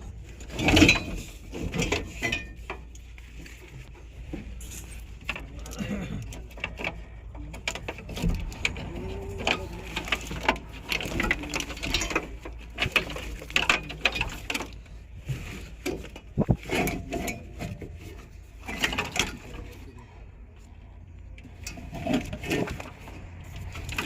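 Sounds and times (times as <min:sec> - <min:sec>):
low steady hum: 0:00.0 - 0:24.0
wiring harness clicking and rustling: 0:00.2 - 0:19.9, 0:21.4 - 0:24.0.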